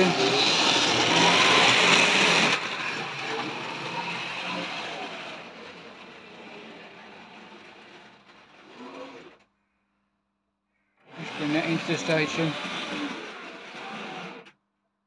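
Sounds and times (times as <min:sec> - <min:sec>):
model train whirring rumble: 0:00.0 - 0:09.5, 0:11.1 - 0:14.5.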